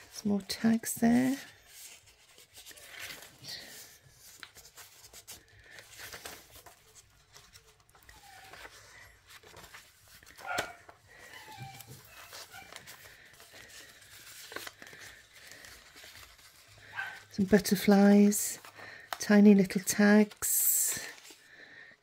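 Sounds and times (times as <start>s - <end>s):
paper pages rustling: 0.0s - 21.9s.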